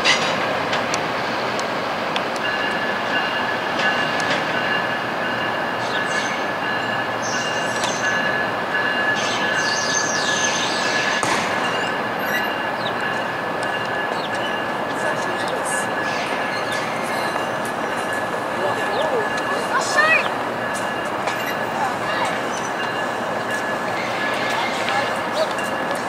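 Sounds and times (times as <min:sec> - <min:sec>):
train running noise: 0:00.0 - 0:26.0
train wheels squealing: 0:02.4 - 0:26.0.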